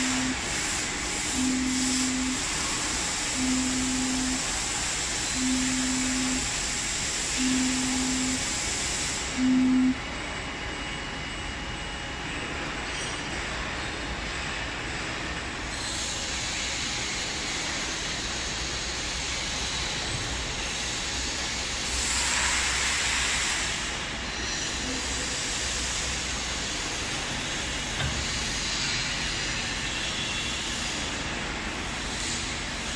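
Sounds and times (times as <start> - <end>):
wrapping machine hiss and rumble: 0.0 - 32.9.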